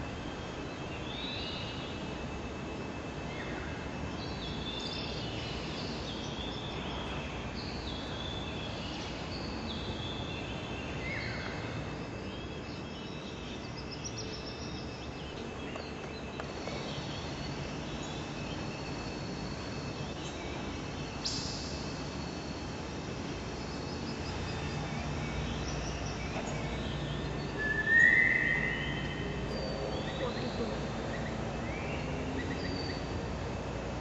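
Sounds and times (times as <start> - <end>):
small birds chirping: 0.0 - 33.3
steady background noise: 0.0 - 34.0.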